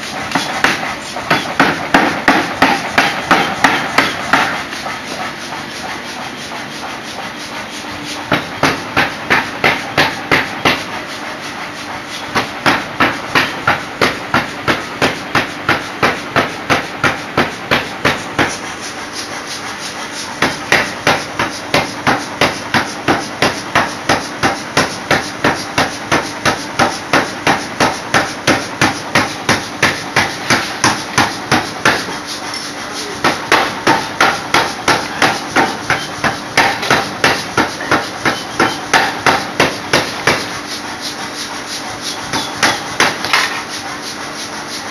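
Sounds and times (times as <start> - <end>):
power hammer blows on steel: 0.0 - 44.9.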